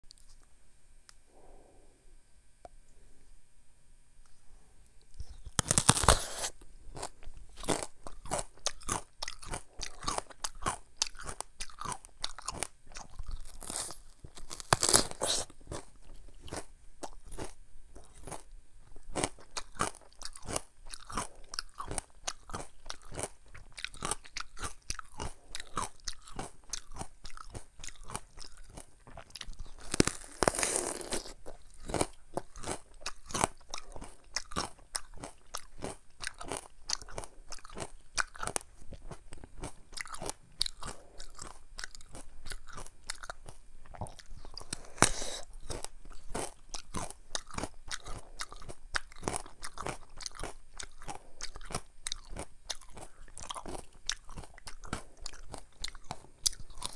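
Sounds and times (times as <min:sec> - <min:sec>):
crunchy chewing: 0:04.2 - 0:56.9
crunchy bites into melon: 0:05.2 - 0:18.4, 0:19.2 - 0:55.6.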